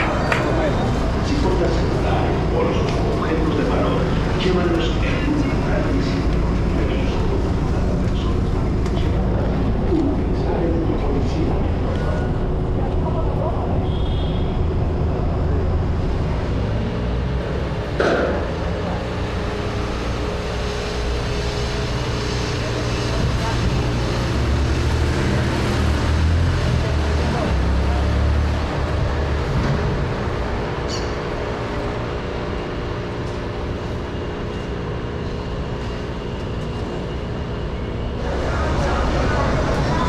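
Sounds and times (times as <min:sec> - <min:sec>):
city street noise: 0:00.0 - 0:40.0
traffic rumble: 0:00.0 - 0:40.0.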